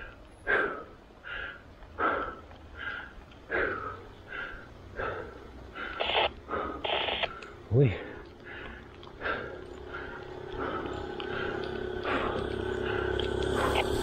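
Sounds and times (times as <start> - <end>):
person panting: 0.0 - 14.0.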